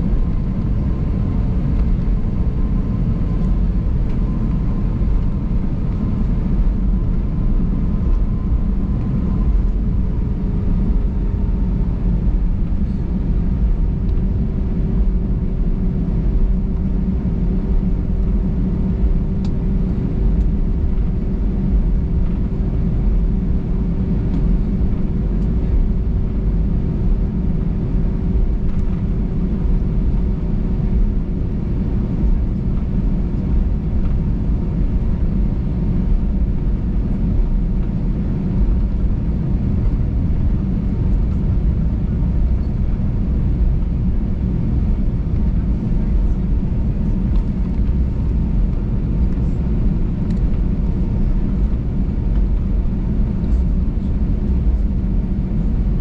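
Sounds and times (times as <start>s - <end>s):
faint steady whine: 0.0s - 56.0s
jet engines idling rumble: 0.0s - 56.0s.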